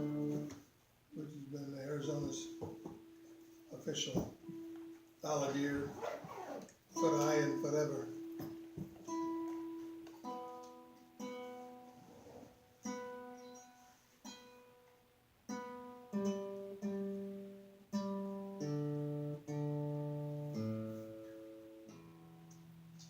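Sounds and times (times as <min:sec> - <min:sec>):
acoustic guitar plucks: 0:00.0 - 0:00.6, 0:01.8 - 0:06.0, 0:06.9 - 0:12.0, 0:12.7 - 0:14.9, 0:15.5 - 0:23.0.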